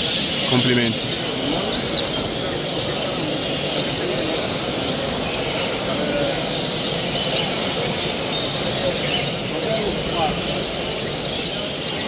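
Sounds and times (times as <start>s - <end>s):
finches and canaries chirping: 0.0s - 12.0s.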